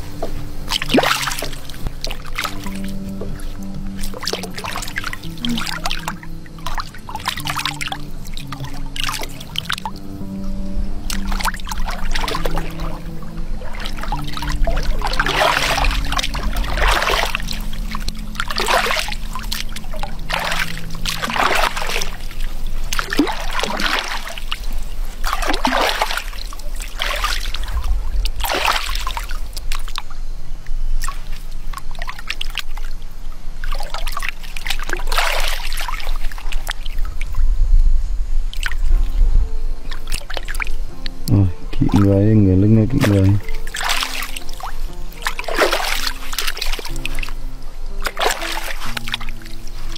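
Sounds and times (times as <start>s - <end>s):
water splashing by hand: 0.0s - 10.2s, 11.0s - 30.1s, 31.0s - 33.0s, 33.6s - 37.4s, 39.8s - 42.2s, 42.9s - 49.9s.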